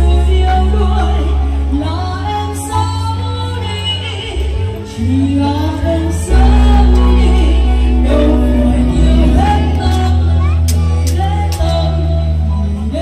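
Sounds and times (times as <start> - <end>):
deep bass notes: 0.0 - 13.0
person singing: 0.0 - 13.0.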